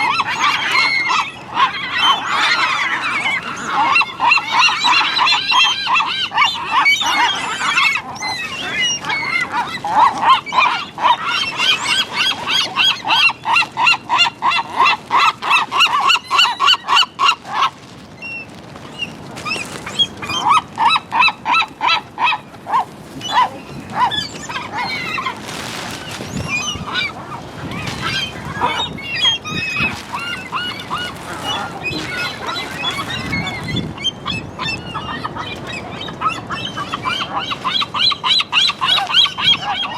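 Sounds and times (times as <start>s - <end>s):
gulls calling: 0.0s - 39.9s.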